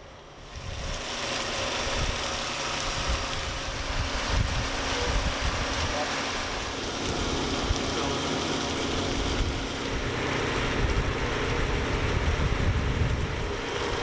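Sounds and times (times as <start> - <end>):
engine running: 0.0 - 14.0
constant hiss: 0.1 - 12.6.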